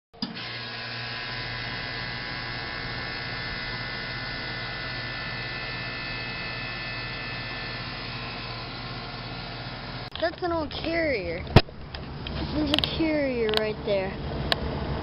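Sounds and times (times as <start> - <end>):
air conditioner units humming: 0.2 - 15.0
steady higher tones: 0.9 - 14.2.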